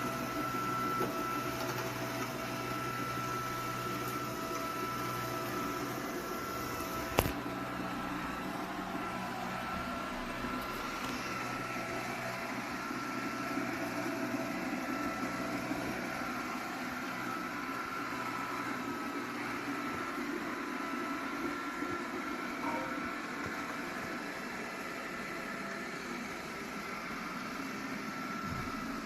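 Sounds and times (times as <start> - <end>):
robot vacuum running: 0.0 - 29.0.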